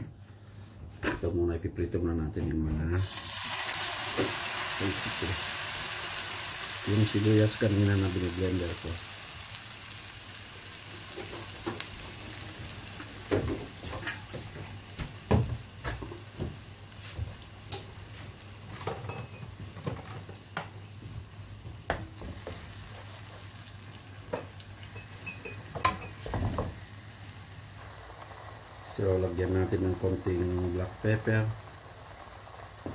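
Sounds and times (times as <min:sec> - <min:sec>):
onion paste sizzling in oil: 0:03.0 - 0:32.9.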